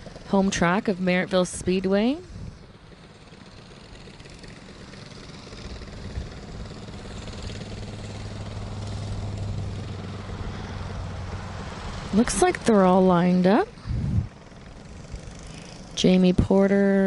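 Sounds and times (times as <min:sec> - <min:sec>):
go-kart engines running: 0:00.0 - 0:17.0
low engine hum: 0:00.0 - 0:17.0.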